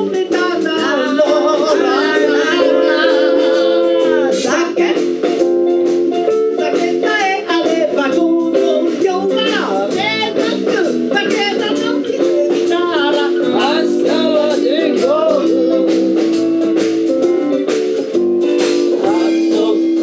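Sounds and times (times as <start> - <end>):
person singing: 0.0 - 5.4, 6.4 - 18.0, 18.9 - 20.0
electric bass guitar: 0.0 - 20.0
guitar: 0.0 - 20.0
steady drum beat: 0.0 - 20.0.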